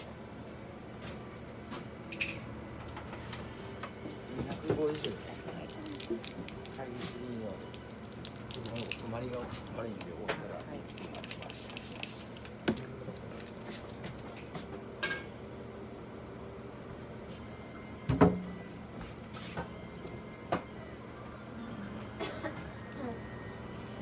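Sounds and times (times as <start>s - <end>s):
low hum of room equipment: 0.0s - 24.0s.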